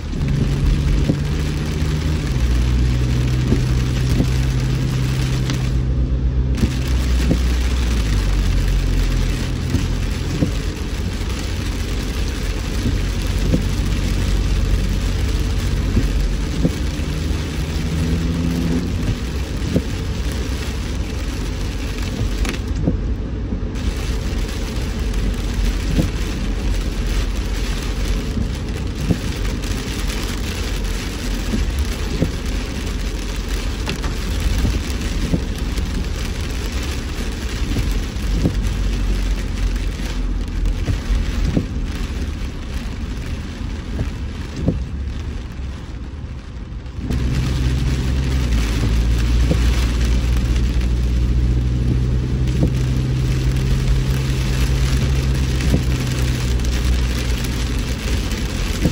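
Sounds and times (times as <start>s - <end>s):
engine and tyres rumbling: 0.0s - 58.9s
rain drumming on a car: 0.0s - 58.9s.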